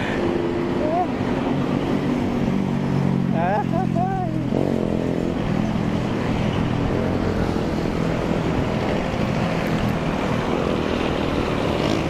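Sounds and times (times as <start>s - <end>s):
motor traffic hum: 0.0s - 12.0s.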